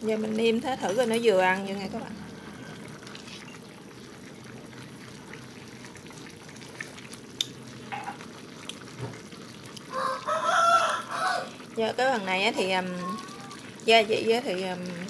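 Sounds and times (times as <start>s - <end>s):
pan simmering and bubbling: 0.0s - 15.0s.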